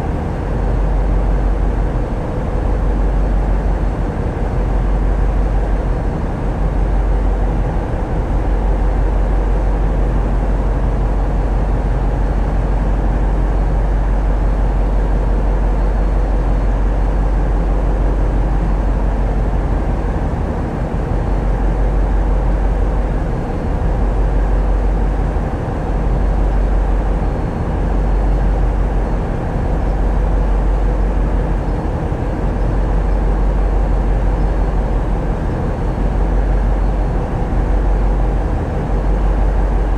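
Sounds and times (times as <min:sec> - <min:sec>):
deep diesel engine drone: 0:00.0 - 0:39.9
faint steady whine: 0:00.0 - 0:39.9.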